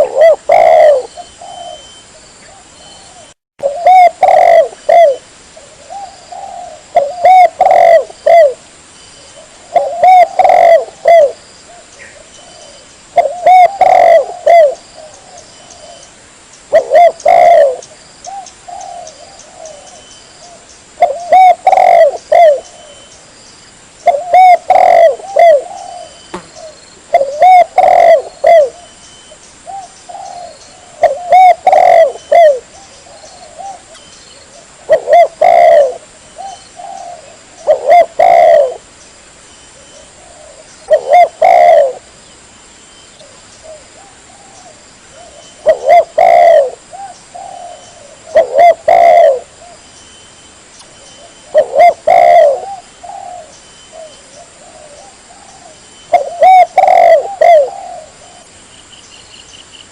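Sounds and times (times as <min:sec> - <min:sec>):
dove cooing: 0:00.0 - 0:08.6, 0:09.3 - 0:16.1, 0:16.7 - 0:23.1, 0:24.0 - 0:29.0, 0:29.6 - 0:38.9, 0:39.8 - 0:42.1, 0:43.2 - 0:49.8, 0:51.0 - 0:58.6.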